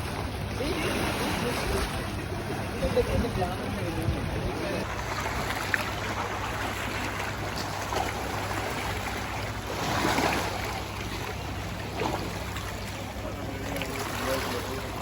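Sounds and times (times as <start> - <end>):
sea water lapping at shore: 0.0 - 15.0.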